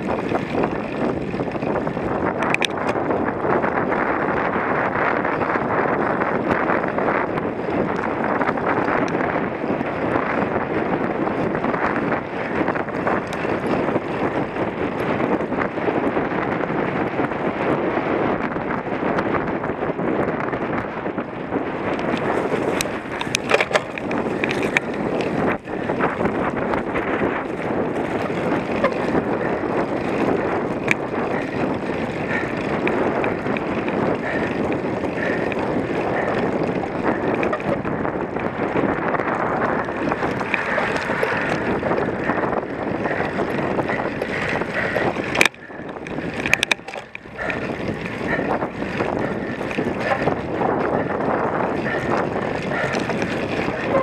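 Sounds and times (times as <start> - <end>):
bike clicks and knocks: 0.0 - 17.3, 18.2 - 54.0
wind rushing over microphone: 0.0 - 54.0.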